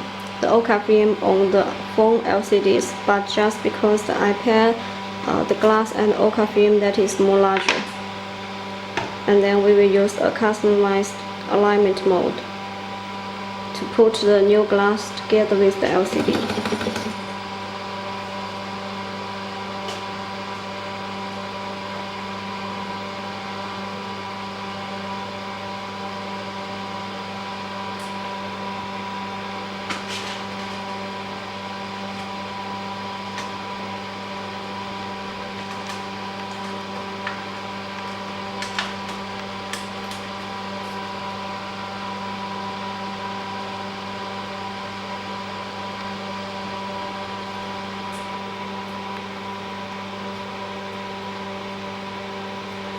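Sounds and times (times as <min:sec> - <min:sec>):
machinery electrical hum: 0:00.0 - 0:52.9.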